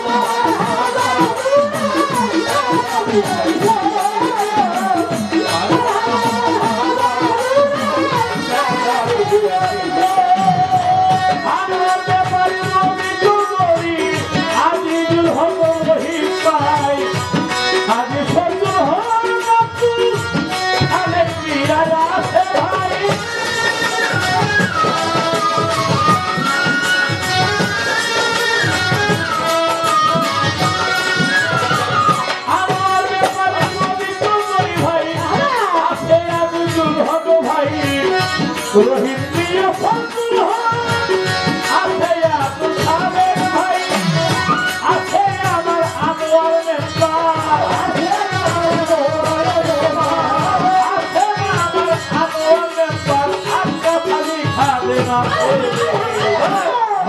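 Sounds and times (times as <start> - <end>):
tabla fast rhythm: 0.0 - 57.0.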